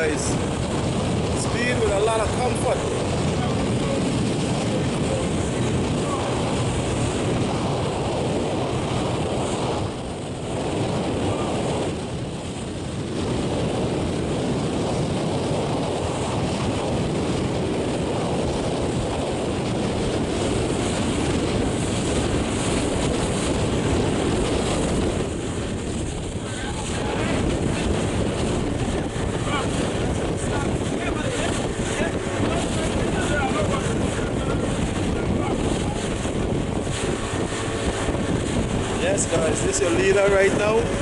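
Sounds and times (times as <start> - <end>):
water rushing and splashing: 0.0 - 41.0
wind buffeting microphone: 0.0 - 41.0.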